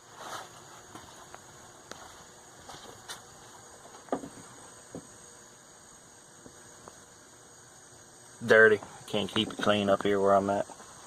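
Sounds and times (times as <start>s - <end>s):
high-pitched insect chirring: 1.1s - 11.0s.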